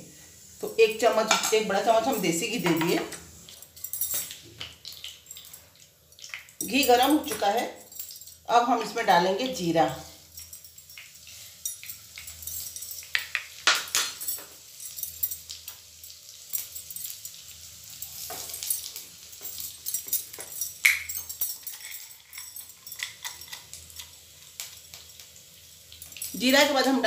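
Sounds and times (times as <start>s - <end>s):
faint sizzle: 0.0s - 27.0s
seeds crackling in hot fat: 0.6s - 27.0s.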